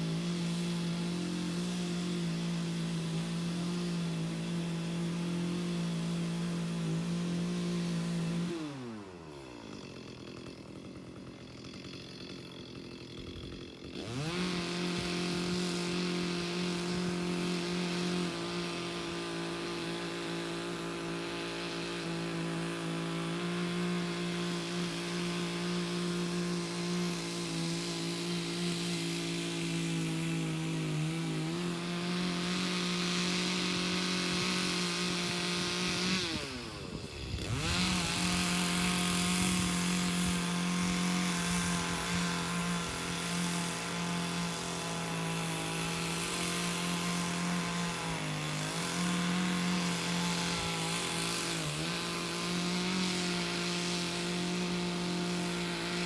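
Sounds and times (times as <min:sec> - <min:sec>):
chainsaw engine revving and idling: 0:00.0 - 0:56.0.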